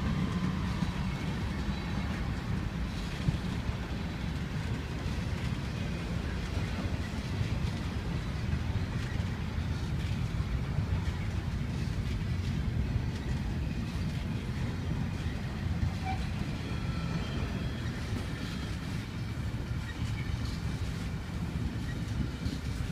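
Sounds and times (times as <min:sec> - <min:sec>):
freight train wheels rumbling on track: 0:00.0 - 0:22.9.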